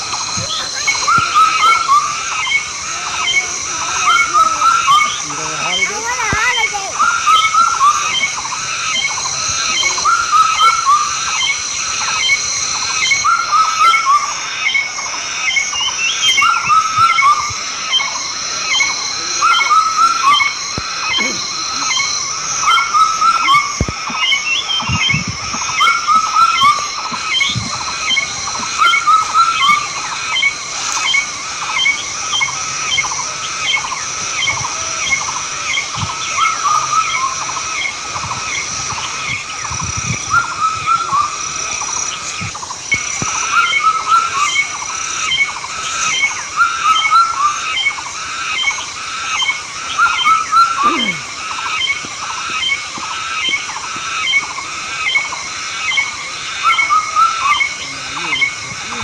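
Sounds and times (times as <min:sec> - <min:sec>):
high-pitched drone: 0:00.0 - 0:48.0, 0:48.6 - 0:53.7
repeating animal calls: 0:00.0 - 0:59.0.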